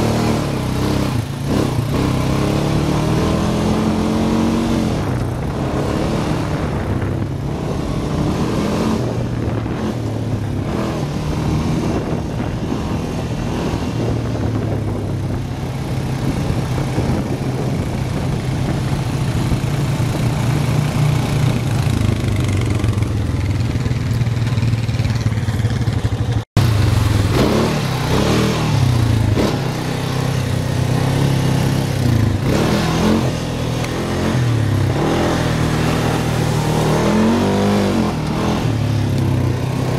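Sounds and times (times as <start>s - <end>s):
atv engine revving: 0.0s - 39.9s
wind and ride noise: 0.0s - 39.9s.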